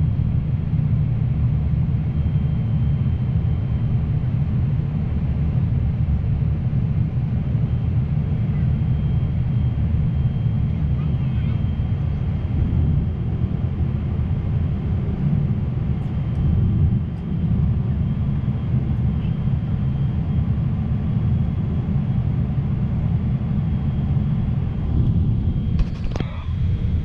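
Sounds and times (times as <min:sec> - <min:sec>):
airliner cabin engine roar: 0:00.0 - 0:27.0.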